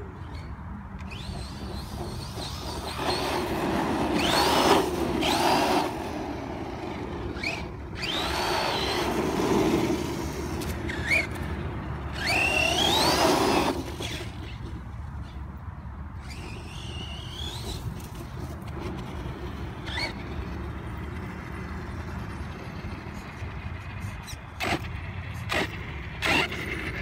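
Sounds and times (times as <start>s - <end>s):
rc truck motor whining: 0.0s - 27.0s.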